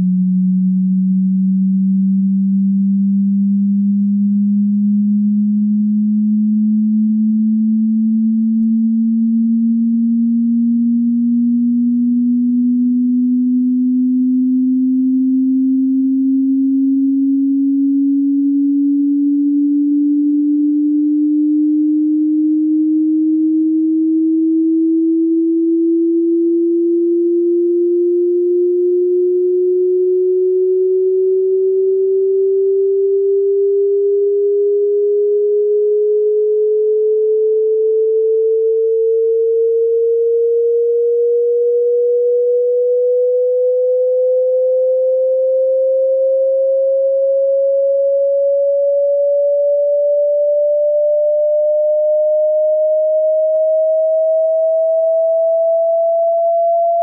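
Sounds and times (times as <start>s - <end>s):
rising sine test tone: 0.0s - 57.0s.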